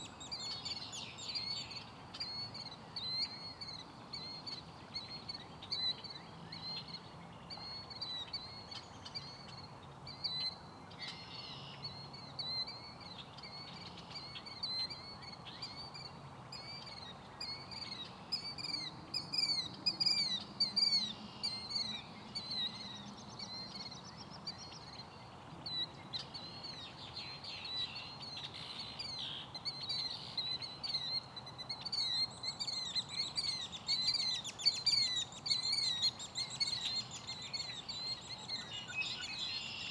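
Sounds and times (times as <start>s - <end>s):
killdeer wailing calls: 0.0s - 39.9s
red-winged blackbirds calling: 0.0s - 39.9s.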